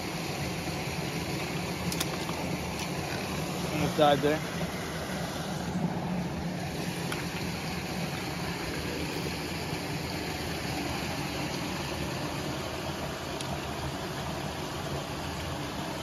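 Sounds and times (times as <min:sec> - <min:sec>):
brook running over rocks: 0:00.7 - 0:14.4.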